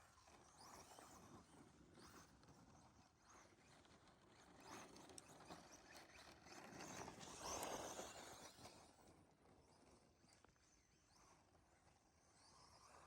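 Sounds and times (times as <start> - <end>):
rc truck motor and tyres on snow: 0.0 - 13.0.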